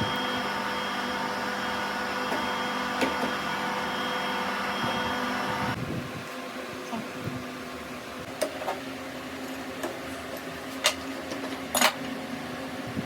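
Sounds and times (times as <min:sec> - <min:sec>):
workshop machine humming: 0:00.0 - 0:13.0.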